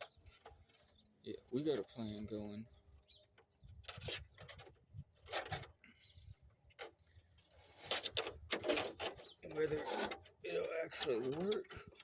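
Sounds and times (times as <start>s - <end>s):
wires scraping and rustling: 0.0s - 12.0s.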